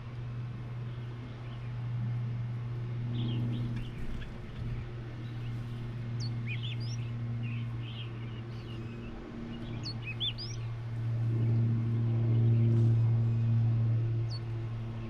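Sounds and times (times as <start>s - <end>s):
steady low hum: 0.0s - 15.0s
birds chirping: 0.6s - 1.8s, 3.0s - 15.0s.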